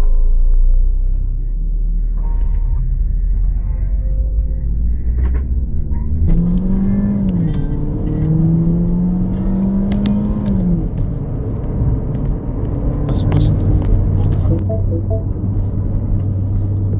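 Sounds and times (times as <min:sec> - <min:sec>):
car engine accelerating: 0:02.3 - 0:16.9.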